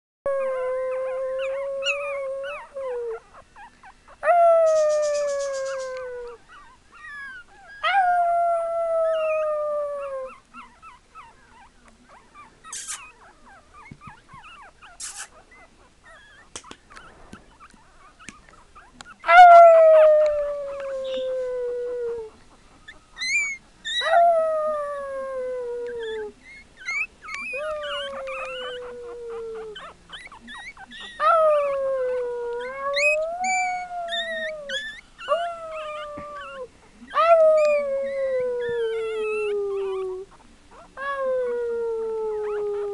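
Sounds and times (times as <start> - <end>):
puppy howling: 0.3 - 11.7, 17.0 - 22.4, 23.2 - 42.9.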